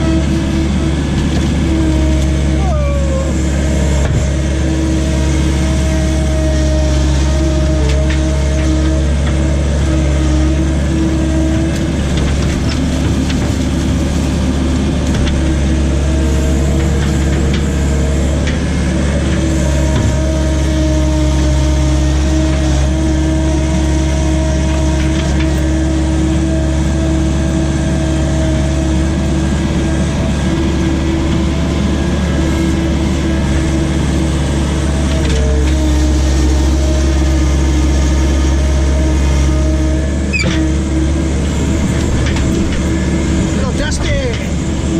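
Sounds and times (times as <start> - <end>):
diesel engine running steadily: 0.0 - 44.9.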